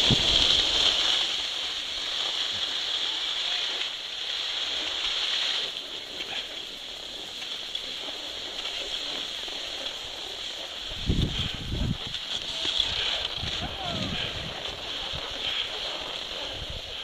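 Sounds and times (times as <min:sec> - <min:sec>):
skis hissing over snow: 0:00.0 - 0:17.0.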